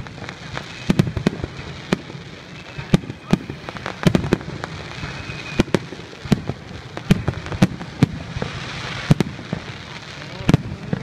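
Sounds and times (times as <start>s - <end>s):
rumble and crackle of fireworks: 0.0s - 11.0s.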